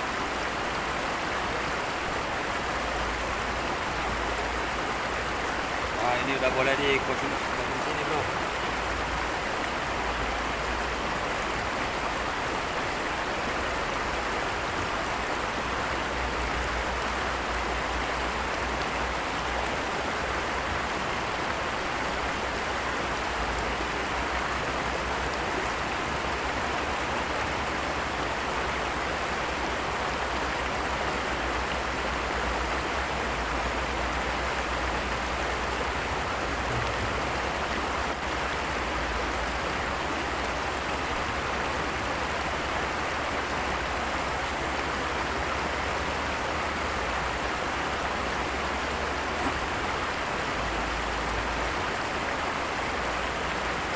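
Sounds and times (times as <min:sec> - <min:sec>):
water rushing: 0:00.0 - 0:53.9.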